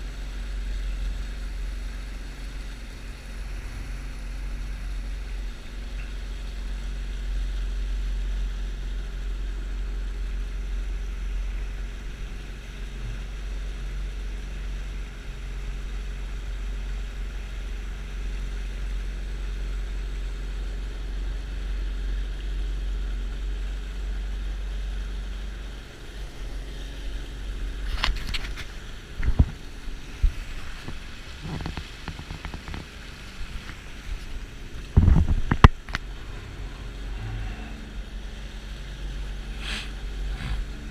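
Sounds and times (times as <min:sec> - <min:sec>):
jet ski running on water: 0:00.0 - 0:40.9
wind rumble on microphone: 0:00.0 - 0:40.9.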